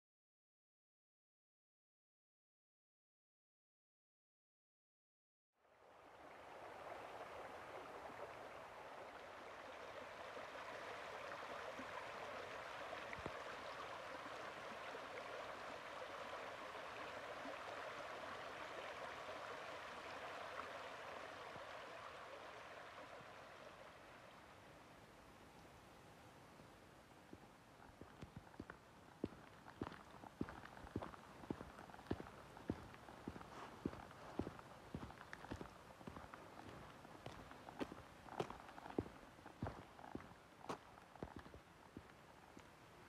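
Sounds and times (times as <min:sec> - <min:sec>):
stream babbling: 0:05.7 - 0:43.0.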